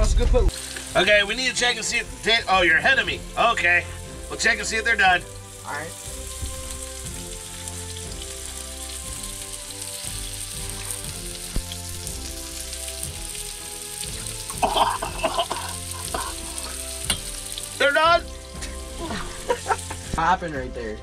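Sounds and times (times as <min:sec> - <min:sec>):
vegetables sizzling in a pan: 0:00.5 - 0:20.2.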